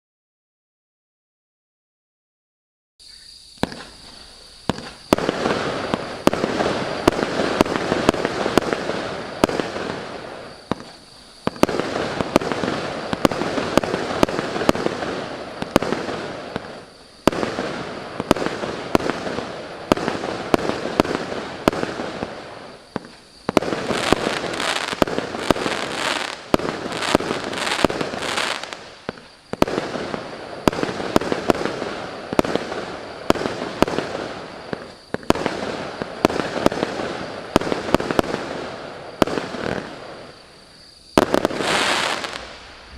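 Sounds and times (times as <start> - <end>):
firework hiss: 3.0 - 42.9
firework crackling: 3.4 - 42.9
firework shots and bursts: 3.6 - 42.9.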